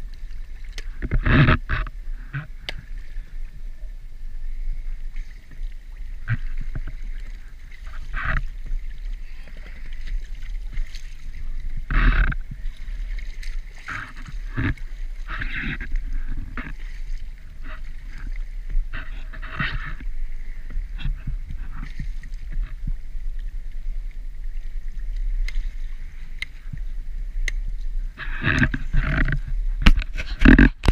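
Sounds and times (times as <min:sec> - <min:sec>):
steady low rumble: 0:00.0 - 0:30.9
water sloshing and gurgling: 0:00.0 - 0:30.9
water splashes: 0:00.0 - 0:30.9.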